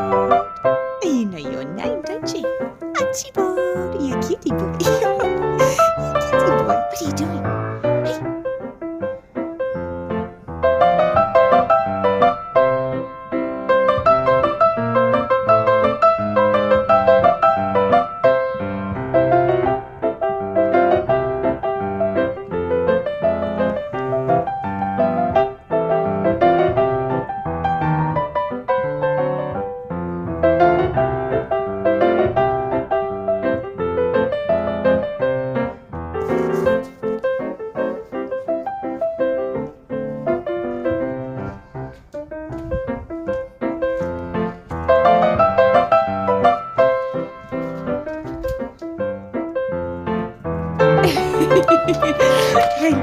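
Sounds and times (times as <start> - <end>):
gentle piano music: 0.0 - 53.0.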